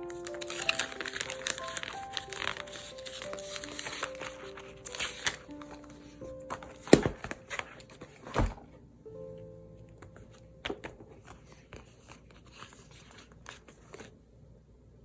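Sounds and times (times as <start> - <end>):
paper rustling: 0.0 - 8.8, 9.9 - 14.2
soft background music: 0.0 - 12.2.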